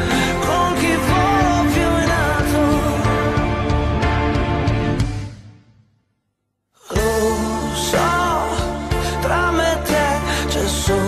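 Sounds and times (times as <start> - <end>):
song with singing voice: 0.0 - 5.4, 6.8 - 11.0.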